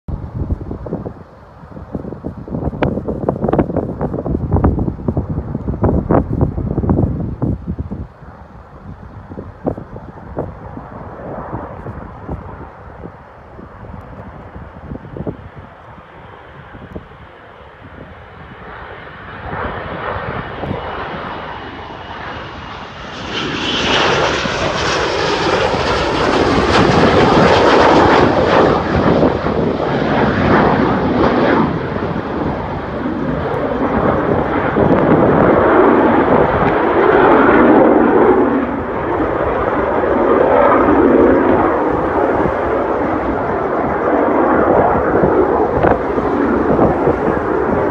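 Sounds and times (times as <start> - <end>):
jet engine whine and roar: 0.1 - 47.9.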